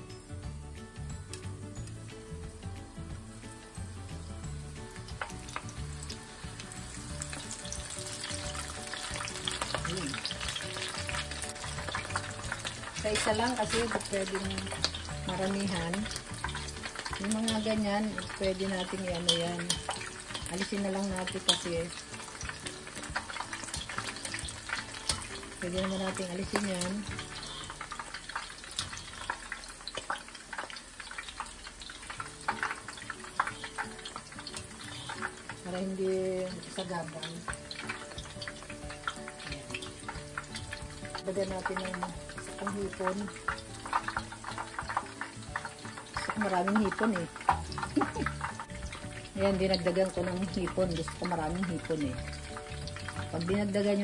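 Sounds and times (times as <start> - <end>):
oil sizzling and crackling: 0.0 - 54.0.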